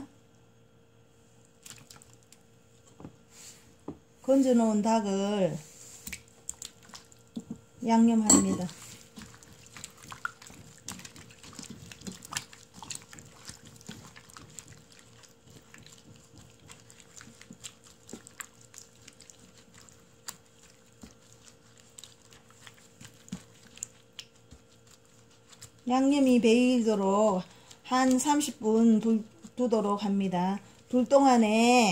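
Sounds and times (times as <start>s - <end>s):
wet squelches of marinating meat: 1.3s - 3.7s, 4.3s - 31.9s.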